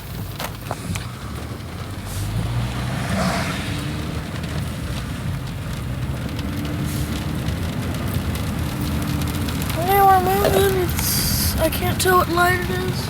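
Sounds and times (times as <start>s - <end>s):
car rumble heard from cabin: 0.0s - 13.0s.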